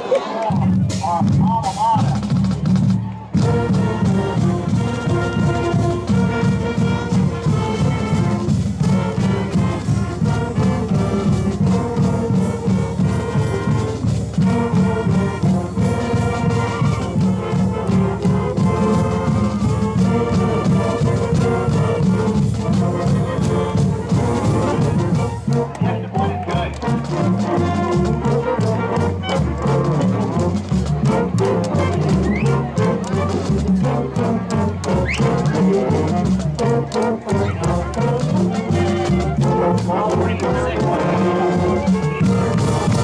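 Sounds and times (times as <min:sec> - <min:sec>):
brass melody: 0:00.1 - 0:43.0
steady drum beat: 0:00.5 - 0:43.0.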